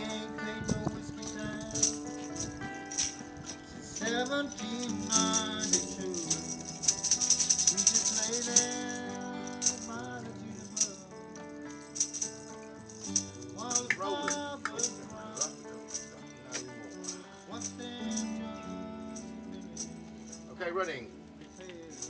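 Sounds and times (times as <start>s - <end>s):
acoustic and electric guitars: 0.0s - 22.0s
shaker rattling: 0.0s - 22.0s.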